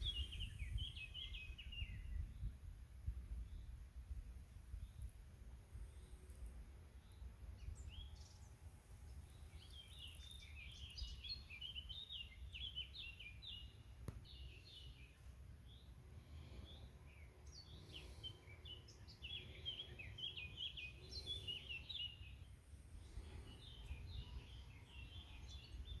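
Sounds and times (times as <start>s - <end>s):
small birds twittering: 0.0s - 3.9s, 4.7s - 26.0s.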